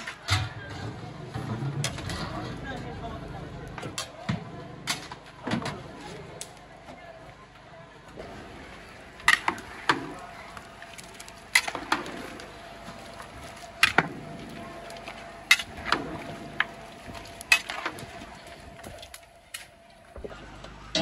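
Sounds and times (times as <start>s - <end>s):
faint steady hum: 1.9s - 21.0s.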